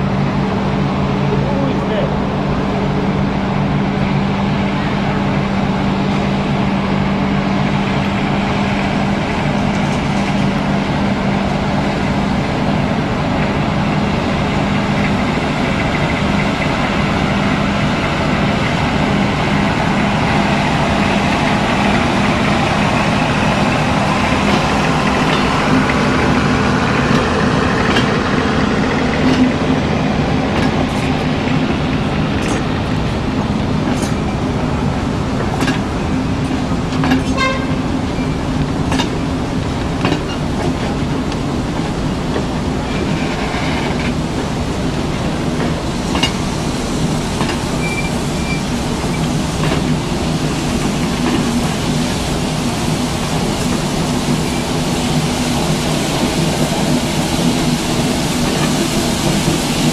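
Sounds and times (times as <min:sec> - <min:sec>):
train coaches rumbling: 0:00.0 - 0:59.9.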